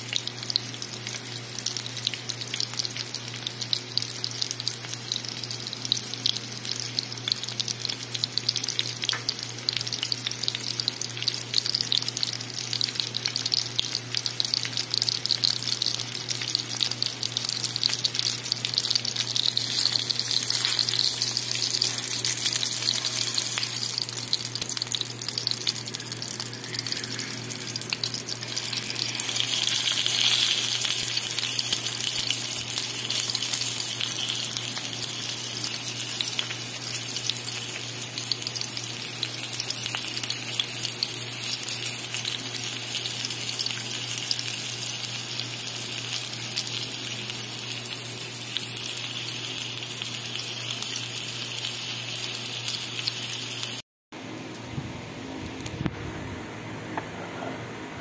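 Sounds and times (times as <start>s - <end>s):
meat sizzling in oil: 0.0s - 53.8s.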